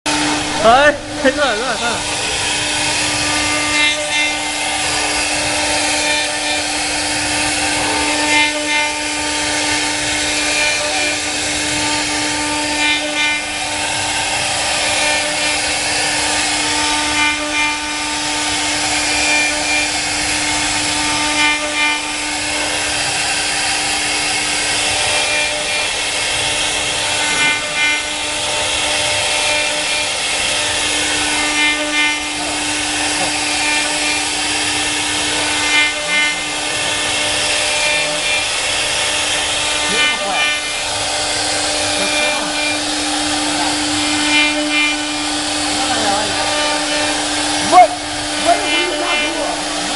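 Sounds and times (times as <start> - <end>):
router bit cutting wood: 0.1 - 49.9
router spindle whining: 0.1 - 49.9.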